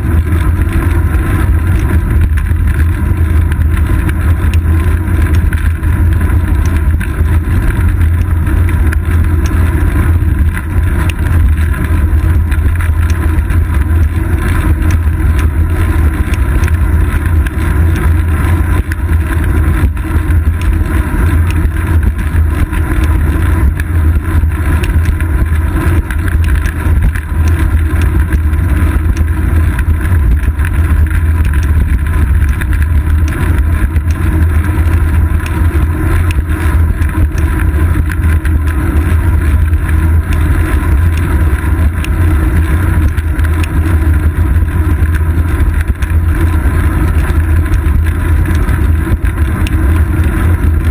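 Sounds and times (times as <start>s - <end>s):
bicycle road vibration: 0.0s - 50.9s
wind rumble: 0.0s - 50.9s.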